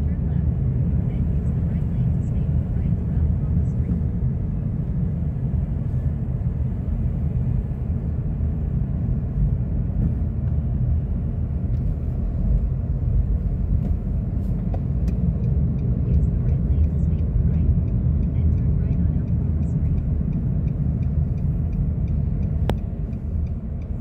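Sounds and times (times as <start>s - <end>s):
road vehicle rumble from inside: 0.0s - 24.0s.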